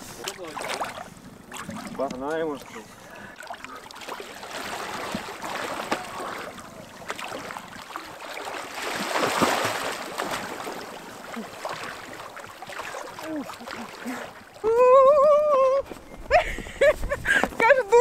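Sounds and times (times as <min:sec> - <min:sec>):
water splashing from swimmers: 0:00.0 - 0:17.6.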